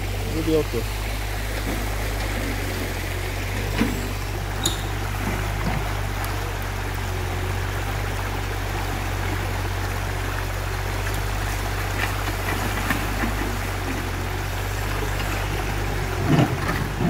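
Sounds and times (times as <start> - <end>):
excavator engine running: 0.0 - 17.0
water rushing over rocks: 0.0 - 17.0.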